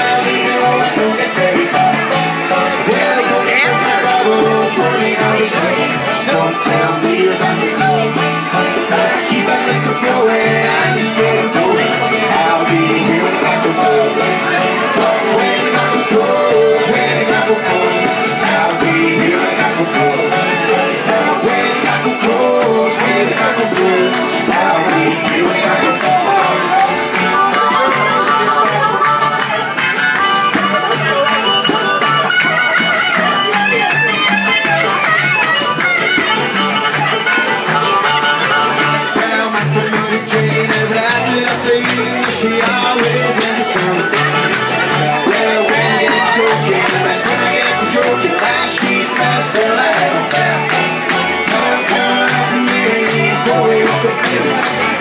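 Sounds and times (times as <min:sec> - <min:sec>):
banjo: 0:00.0 - 0:55.0
fiddle: 0:00.0 - 0:55.0
strummed acoustic guitar: 0:00.0 - 0:55.0
upright bass: 0:00.0 - 0:55.0.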